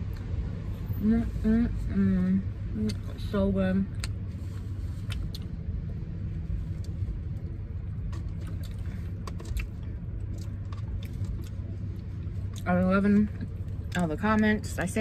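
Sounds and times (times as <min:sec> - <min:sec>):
car interior hum: 0:00.0 - 0:15.0.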